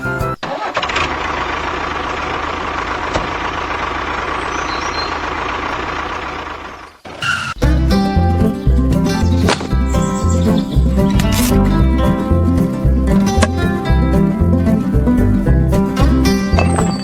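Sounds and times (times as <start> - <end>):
vehicle engine idling: 0.6 - 7.0, 7.6 - 17.0.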